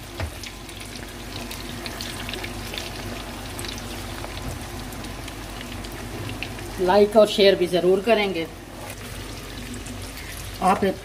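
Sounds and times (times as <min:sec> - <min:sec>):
oil bubbling and crackling: 0:00.0 - 0:11.0.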